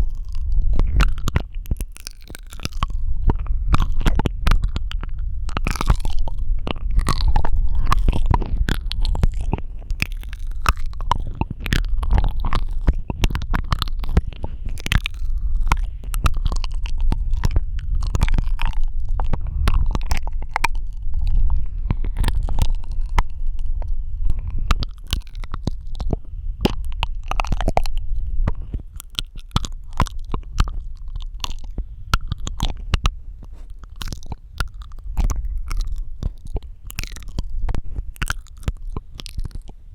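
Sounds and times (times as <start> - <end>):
low rumble: 0.0 - 39.9
wet mouth clicks and smacks: 0.0 - 39.9.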